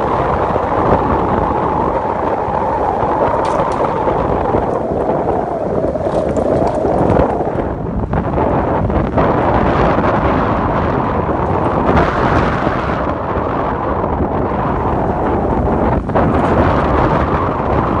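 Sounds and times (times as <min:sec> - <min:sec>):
tyre and road noise: 0:00.0 - 0:18.0
wind buffeting microphone: 0:00.0 - 0:18.0.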